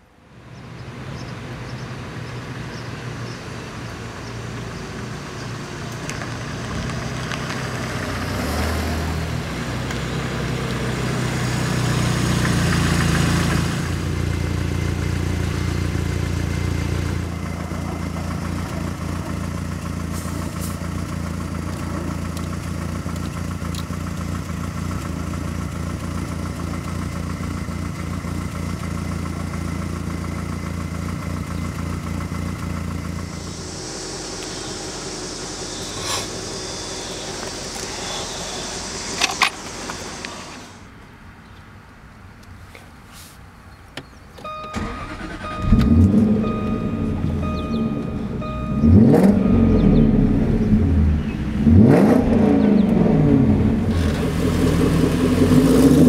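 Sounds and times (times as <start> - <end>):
car engine running: 3.2 - 40.9, 44.4 - 56.0.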